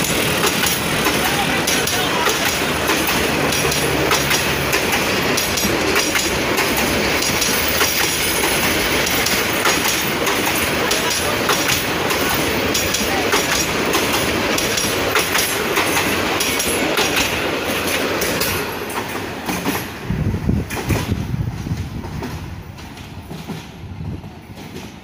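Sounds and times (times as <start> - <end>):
train rumble: 0.0 - 25.0
train wheels clacking over rail joints: 0.0 - 25.0.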